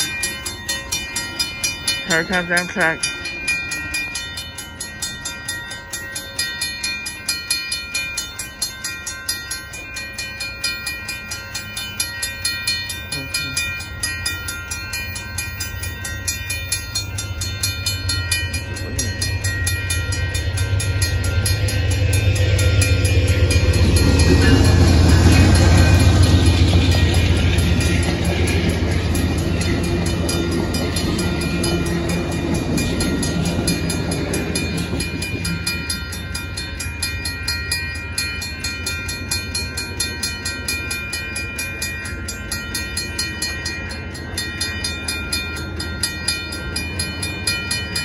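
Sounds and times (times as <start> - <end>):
railroad crossing bell ringing: 0.0 - 48.0
train rumble: 0.0 - 48.0.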